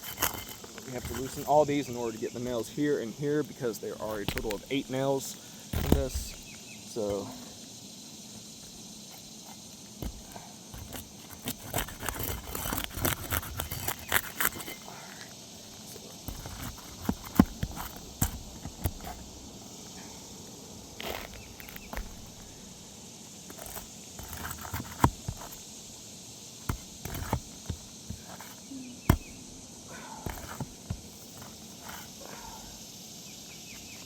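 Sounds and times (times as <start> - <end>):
scraping shingles: 0.0 - 7.5, 8.6 - 19.4, 20.9 - 22.6, 23.4 - 25.7, 26.6 - 32.5.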